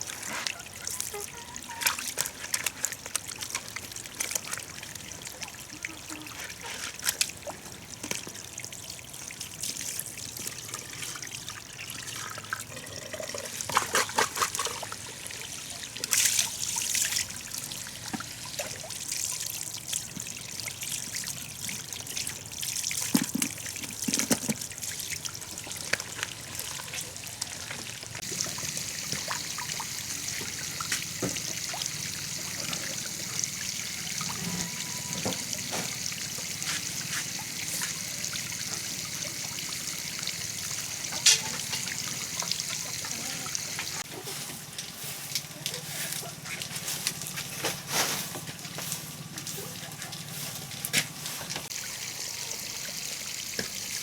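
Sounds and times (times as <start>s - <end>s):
water trickling: 0.0s - 44.1s, 49.3s - 54.0s.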